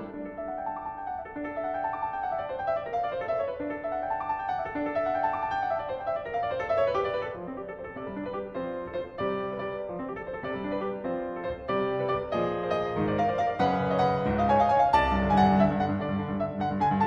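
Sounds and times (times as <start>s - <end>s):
grand piano playing classical piece: 0.0s - 17.0s.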